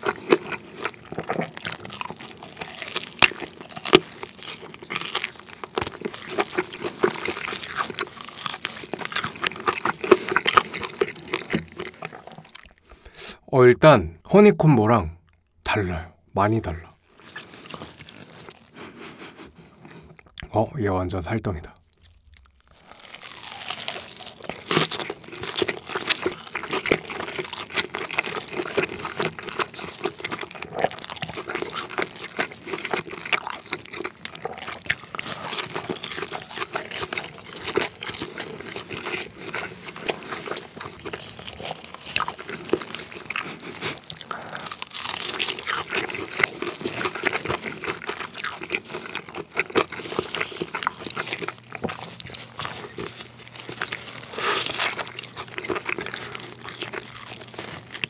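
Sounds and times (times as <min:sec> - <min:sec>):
crunchy chewing: 0:00.0 - 0:13.2, 0:17.1 - 0:20.5, 0:21.8 - 0:58.0.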